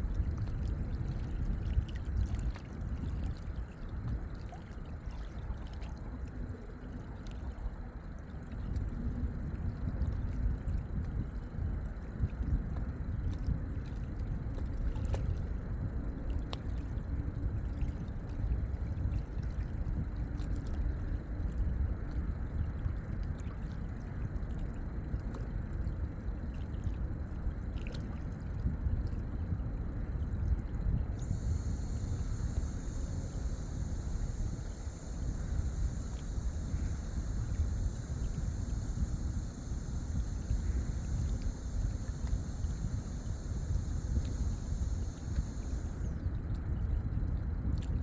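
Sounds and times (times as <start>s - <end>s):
faint high-pitched whine: 0.0s - 47.9s
water lapping and trickling: 0.0s - 48.0s.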